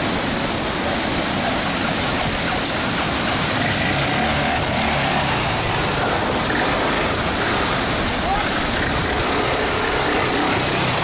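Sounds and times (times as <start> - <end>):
storm surf roaring: 0.0 - 11.0.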